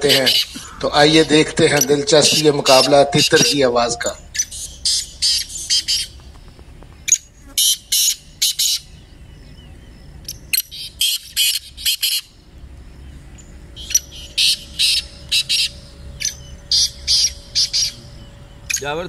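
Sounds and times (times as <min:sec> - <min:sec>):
francolins calling: 0:00.0 - 0:19.0.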